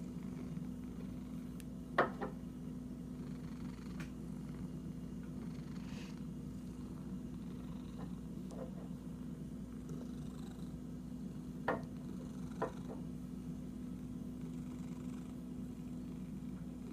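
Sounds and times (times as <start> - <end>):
cat purring: 0.0 - 16.9.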